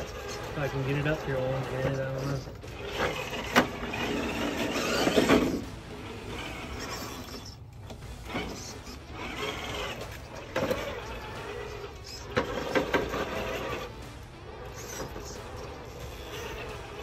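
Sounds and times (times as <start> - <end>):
rc car motor whine: 0.0 - 17.0.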